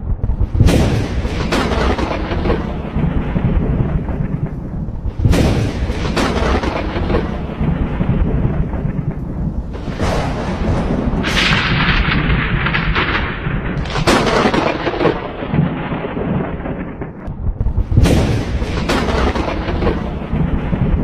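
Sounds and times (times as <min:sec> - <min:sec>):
thunder rumble with sharp cracks: 0:00.0 - 0:21.0.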